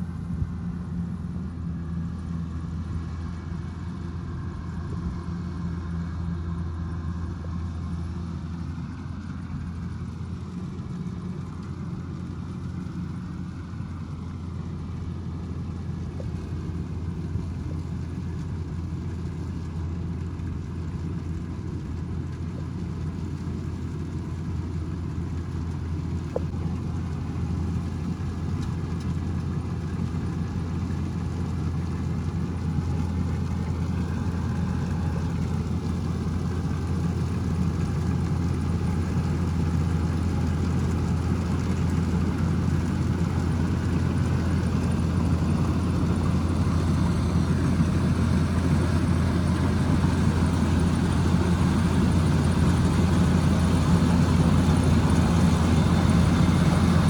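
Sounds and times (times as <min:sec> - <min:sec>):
diesel engine humming: 0:09.5 - 0:57.0.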